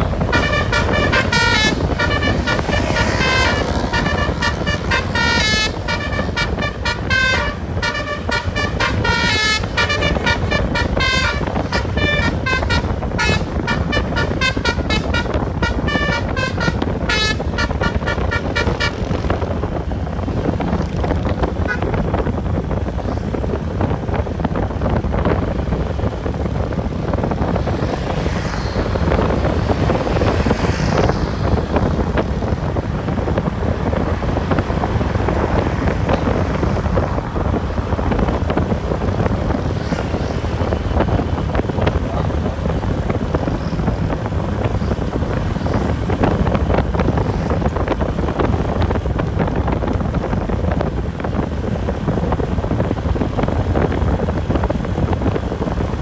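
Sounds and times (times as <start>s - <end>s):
bus engine and road drone: 0.0s - 56.0s
wind buffeting microphone: 0.0s - 56.0s.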